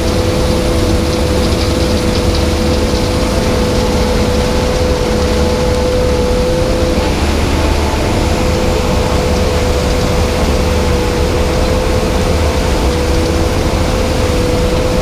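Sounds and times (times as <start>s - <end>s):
combine harvester rumbling: 0.0s - 15.0s.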